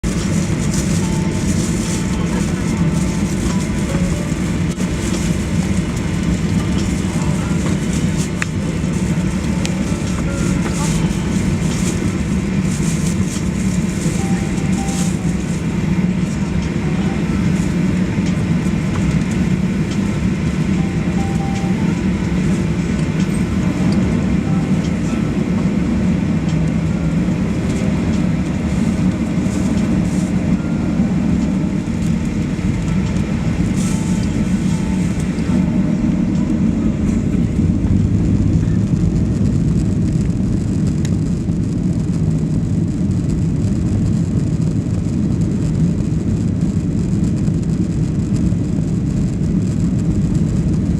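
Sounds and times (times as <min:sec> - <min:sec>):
jet engine rumble: 0:00.0 - 0:50.9.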